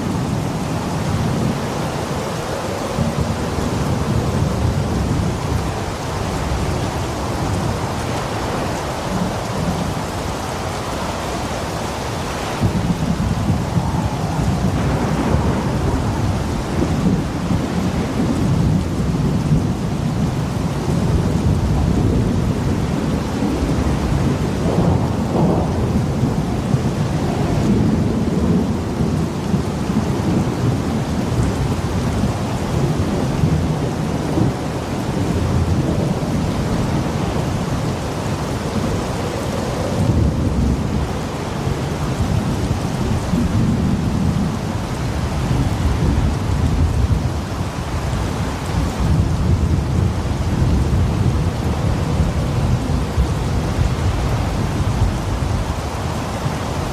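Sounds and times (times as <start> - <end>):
heavy rain: 0.0 - 56.9
wind: 0.0 - 56.9.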